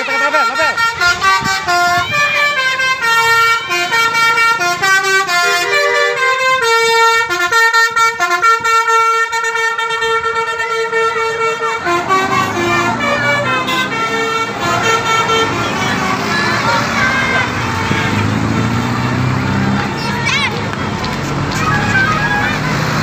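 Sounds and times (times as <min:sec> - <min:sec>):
musical bus air horn tune: 0:00.0 - 0:20.2, 0:21.6 - 0:23.0.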